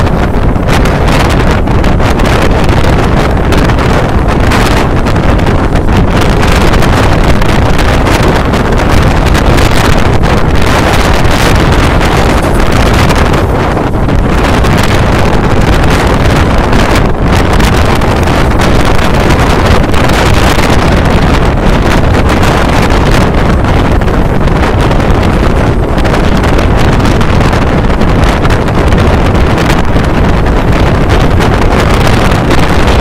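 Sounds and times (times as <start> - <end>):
train rumbling on track: 0.0 - 33.0
wind buffeting microphone: 0.0 - 33.0.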